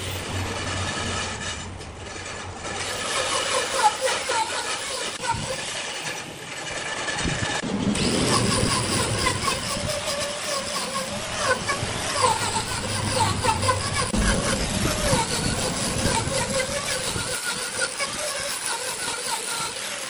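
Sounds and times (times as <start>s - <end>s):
angle grinder sanding wood: 0.0s - 20.0s.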